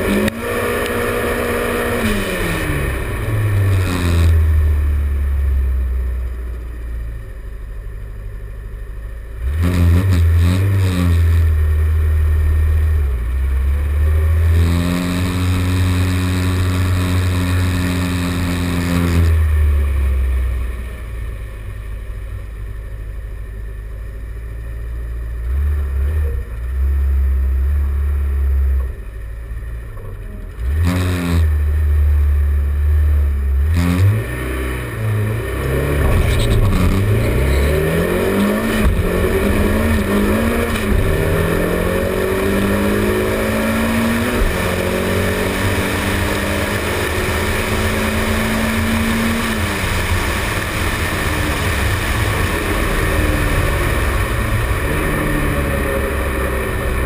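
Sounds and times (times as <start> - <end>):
car engine accelerating hard: 0.0 - 7.4, 9.3 - 21.8, 24.8 - 57.0
wind and road noise: 0.0 - 57.0.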